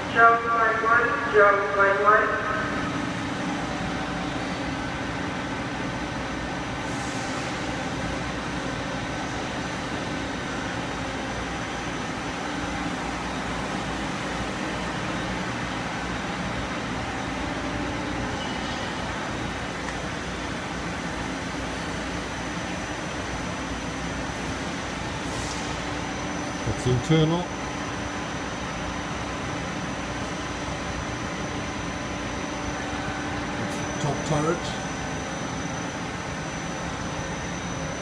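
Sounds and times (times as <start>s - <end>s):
machine-shop drone: 0.0s - 38.0s.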